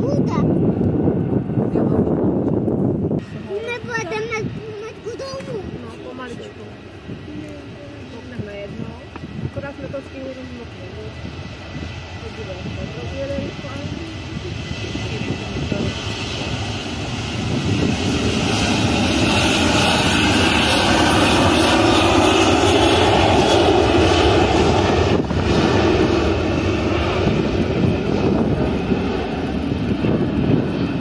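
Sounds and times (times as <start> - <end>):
airliner engines roaring: 0.0 - 31.0.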